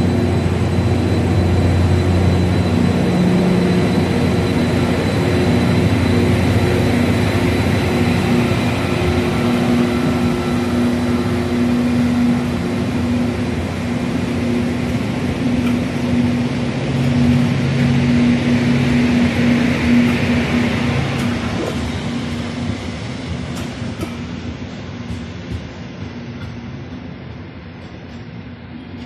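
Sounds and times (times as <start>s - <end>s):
diesel train engines droning: 0.0s - 29.0s.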